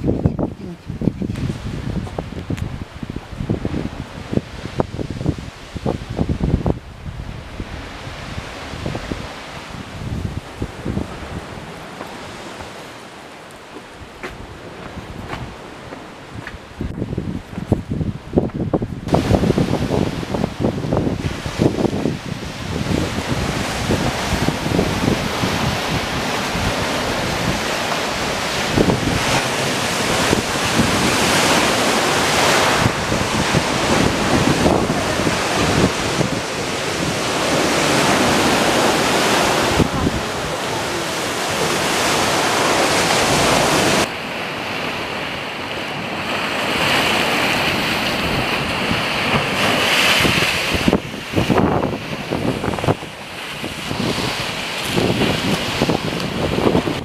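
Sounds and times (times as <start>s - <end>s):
wind buffeting microphone: 0.0s - 13.0s, 13.8s - 57.0s
rushing water: 0.0s - 57.0s.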